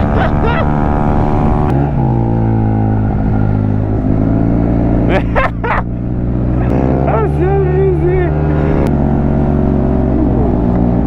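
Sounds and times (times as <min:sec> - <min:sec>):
scooter engine drone: 0:00.0 - 0:11.0.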